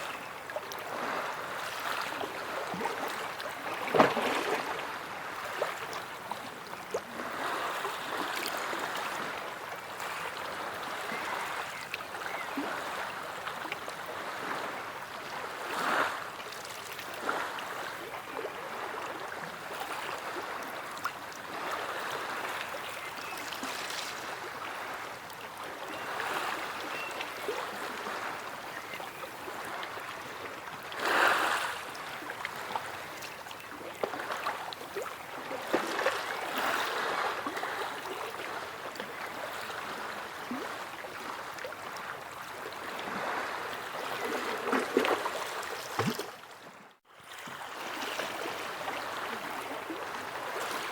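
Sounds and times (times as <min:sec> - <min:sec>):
sea waves lapping at shore: 0:00.0 - 0:50.9.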